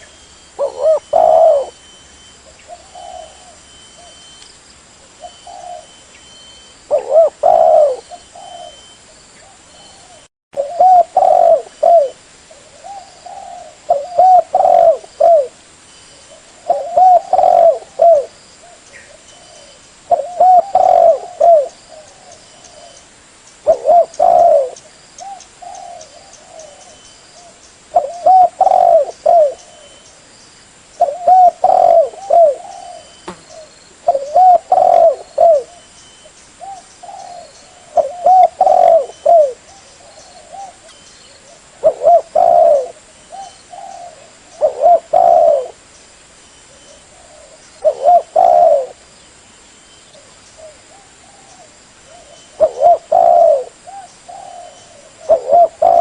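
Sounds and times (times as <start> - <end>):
dove cooing: 0.0 - 4.2, 5.0 - 6.1, 6.9 - 15.6, 16.3 - 23.0, 23.6 - 30.0, 31.0 - 35.9, 36.6 - 45.8, 46.7 - 49.0, 50.2 - 56.0.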